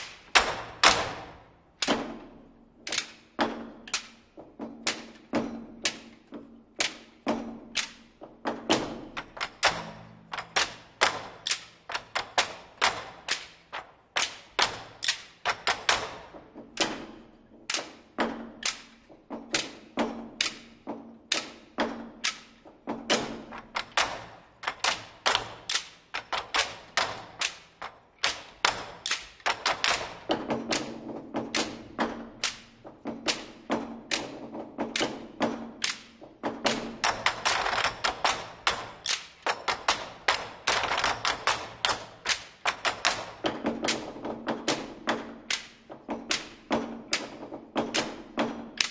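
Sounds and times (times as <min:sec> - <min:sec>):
barrel drums struck with sticks: 0:00.0 - 0:48.9.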